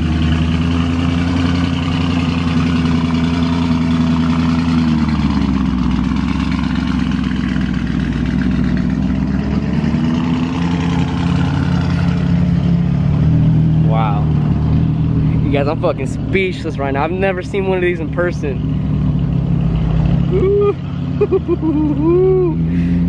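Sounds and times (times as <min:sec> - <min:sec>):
car engine running at low revs: 0:00.0 - 0:23.0.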